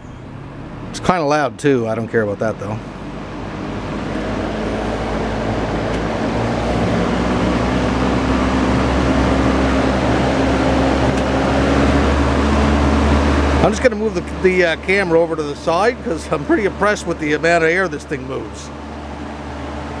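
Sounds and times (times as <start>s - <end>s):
fan air rushing: 0.0s - 20.0s
fan motor hum: 0.0s - 20.0s.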